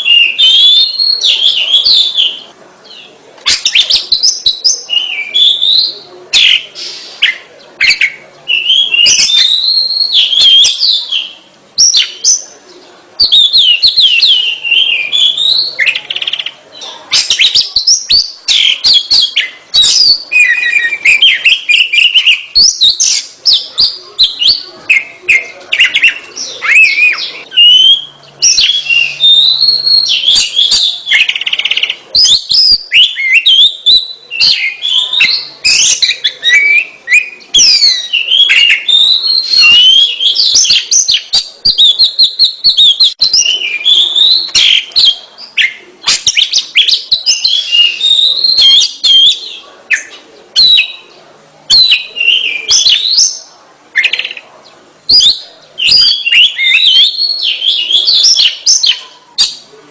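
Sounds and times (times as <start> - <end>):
bird singing whistles and trills: 0.0 - 12.5, 13.2 - 51.1, 51.7 - 54.4, 55.1 - 59.6.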